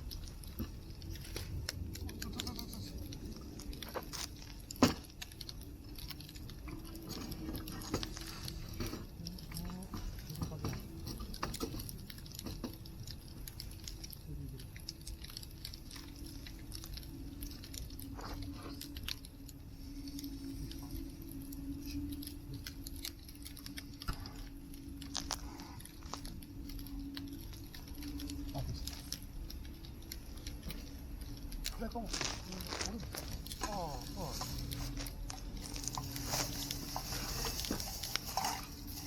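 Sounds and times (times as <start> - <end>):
campfire crackling: 0.0 - 39.0
low hum: 0.0 - 39.0.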